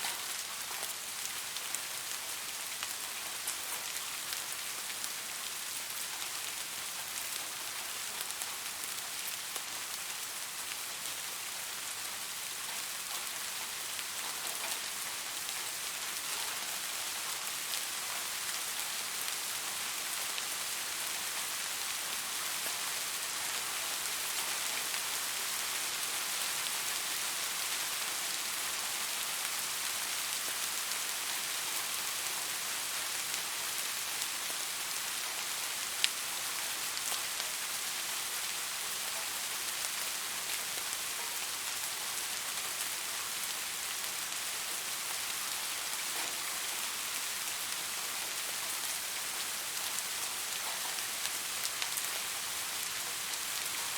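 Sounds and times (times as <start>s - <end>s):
rain pattering on a surface: 0.0s - 53.9s.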